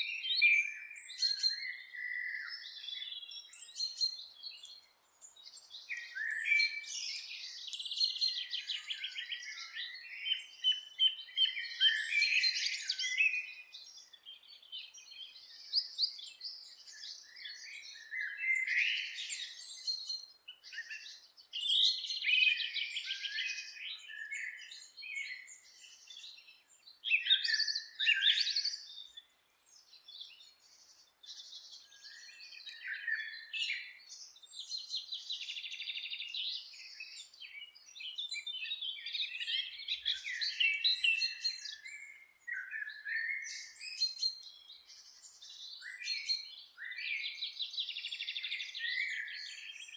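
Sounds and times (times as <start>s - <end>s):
songbirds singing and chirping: 0.0s - 49.9s.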